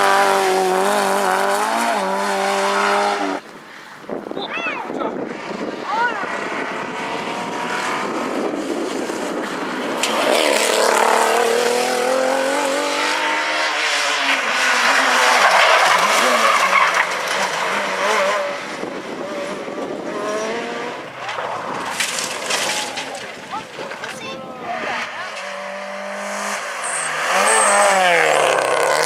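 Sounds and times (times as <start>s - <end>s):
rally car engine revving: 0.0s - 3.4s, 5.1s - 29.0s.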